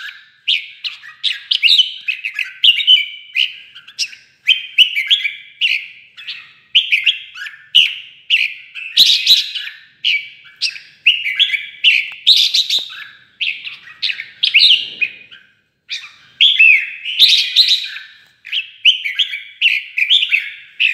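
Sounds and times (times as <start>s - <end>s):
bulbul chirping song: 0.0s - 20.9s.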